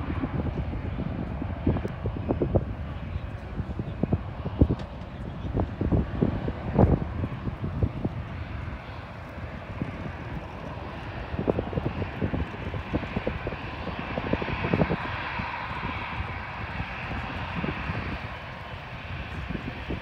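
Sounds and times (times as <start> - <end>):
jet engines rushing: 0.0 - 20.0.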